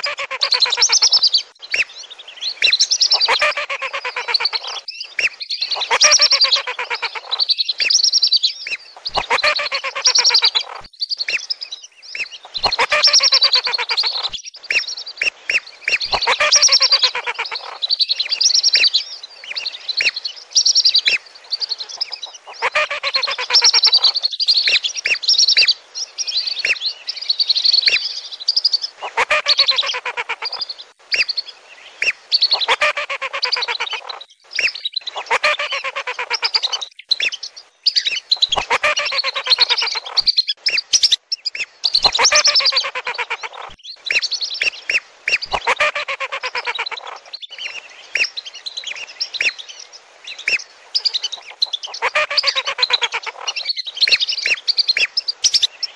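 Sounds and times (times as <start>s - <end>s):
whistling ducks calling: 0.0s - 1.9s, 2.5s - 8.3s, 9.0s - 11.5s, 12.2s - 19.0s, 20.0s - 25.7s, 29.0s - 31.3s, 32.0s - 49.6s, 50.3s - 55.9s.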